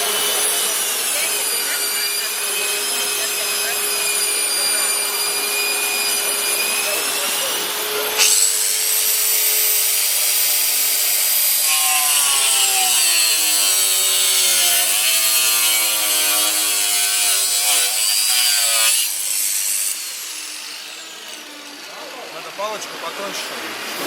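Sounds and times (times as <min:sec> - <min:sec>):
angle grinder whining: 0:00.0 - 0:24.0
grinder cutting into wood: 0:00.0 - 0:24.0.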